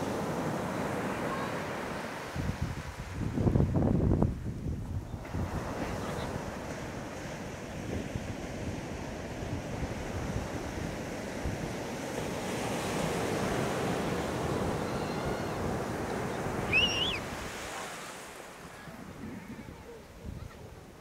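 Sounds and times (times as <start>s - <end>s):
sea waves breaking on beach: 0.0s - 3.8s, 5.2s - 21.0s.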